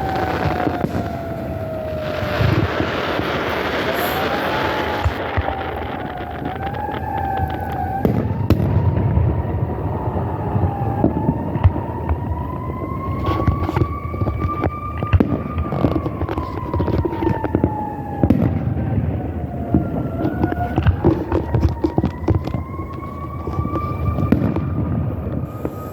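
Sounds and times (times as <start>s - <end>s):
fireworks crackling and popping: 0.0s - 25.9s
siren-like tone: 0.0s - 25.9s.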